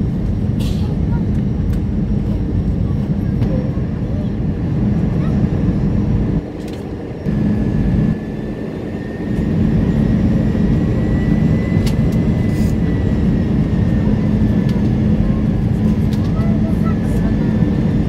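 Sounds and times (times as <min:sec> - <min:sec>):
drone of jet engines: 0:00.0 - 0:18.0
low hum: 0:00.0 - 0:18.0.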